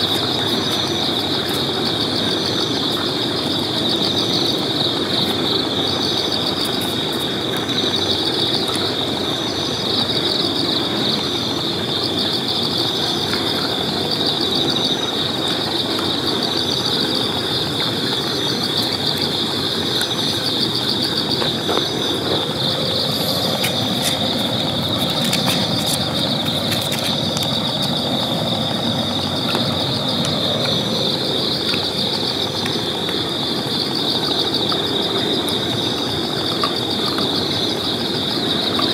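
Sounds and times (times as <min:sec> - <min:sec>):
night insects trilling: 0:00.0 - 0:38.9.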